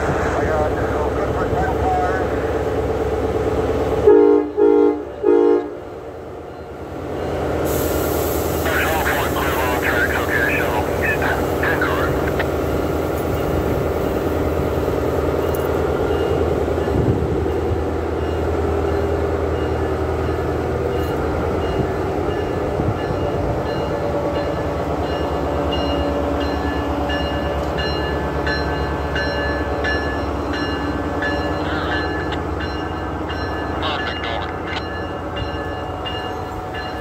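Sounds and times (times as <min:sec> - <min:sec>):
diesel locomotive running: 0:00.0 - 0:37.0.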